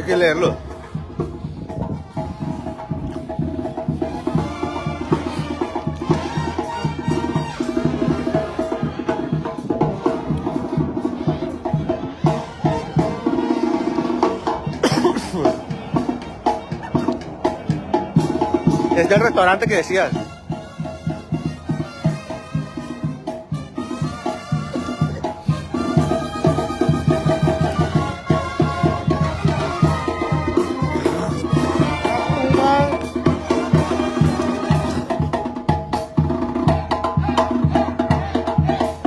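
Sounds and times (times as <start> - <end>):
banda music with horns: 0.0 - 39.0.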